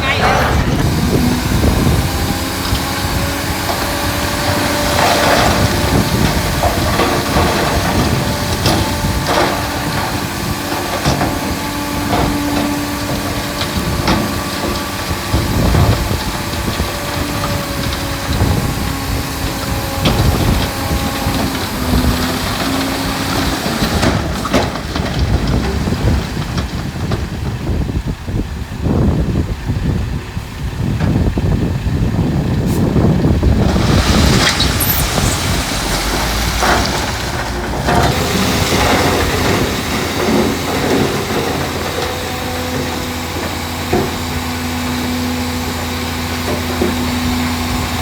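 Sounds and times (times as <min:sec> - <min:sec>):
heavy diesel machinery running: 0:00.0 - 0:48.0.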